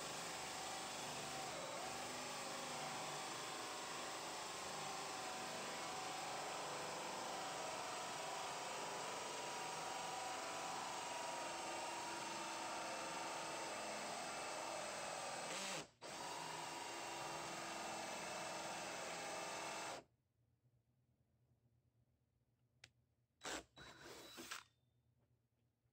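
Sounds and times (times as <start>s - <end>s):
cordless drill with hole saw: 0.0s - 20.0s, 23.4s - 24.8s.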